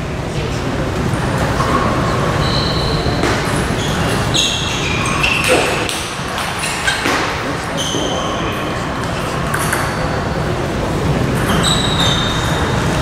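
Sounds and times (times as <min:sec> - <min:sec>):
large hall noise: 0:00.0 - 0:13.0.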